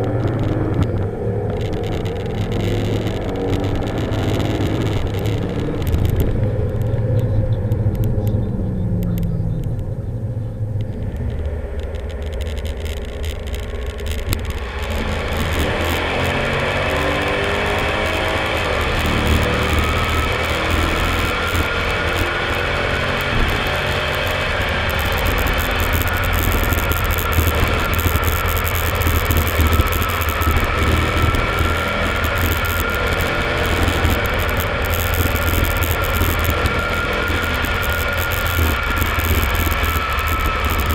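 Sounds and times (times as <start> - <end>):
car engine deep rumble: 0.0 - 40.9.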